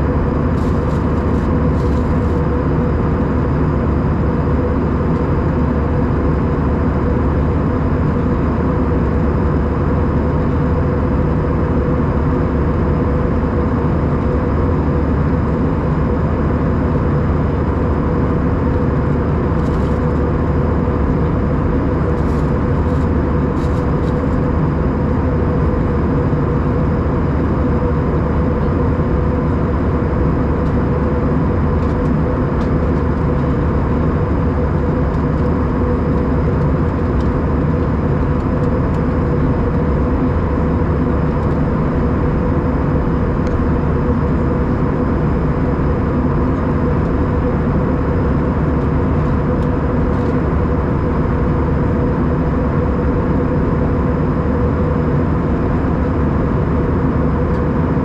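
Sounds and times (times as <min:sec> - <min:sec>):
jet engines: 0:00.0 - 0:58.0
steady hum: 0:00.0 - 0:58.0.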